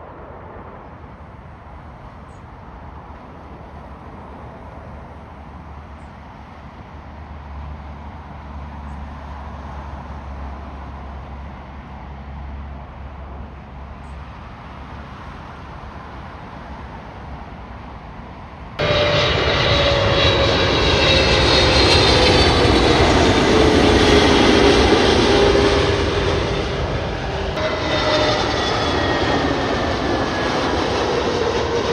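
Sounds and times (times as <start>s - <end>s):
jet airliner engines rumbling: 0.0s - 31.9s
jet engines whining close pass: 0.0s - 31.9s.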